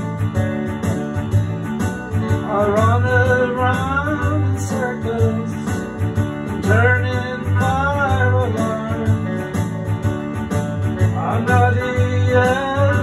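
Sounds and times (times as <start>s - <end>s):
slow country music on keyboard: 0.0s - 13.0s.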